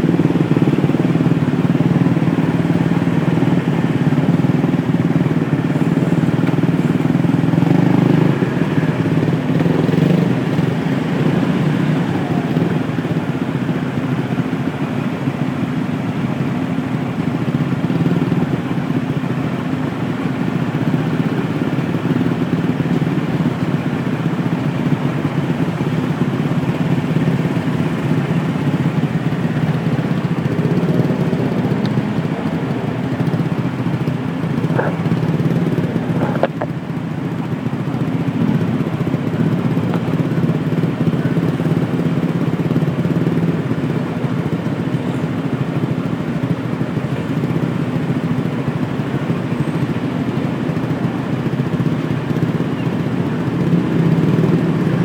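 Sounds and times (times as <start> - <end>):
motorbike engines idling: 0.0 - 55.0.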